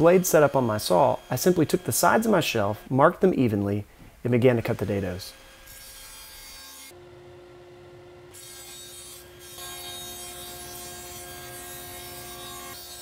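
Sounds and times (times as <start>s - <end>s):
table saw humming: 0.0s - 3.0s, 4.6s - 13.0s.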